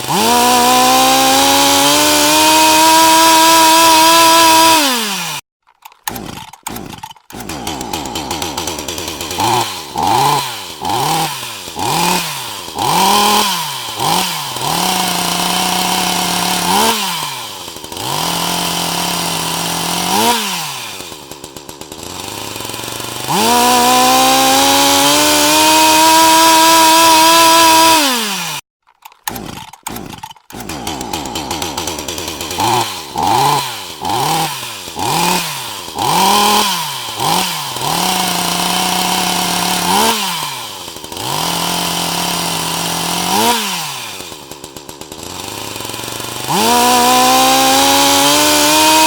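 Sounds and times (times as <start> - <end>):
chainsaw revving: 0.0 - 49.0.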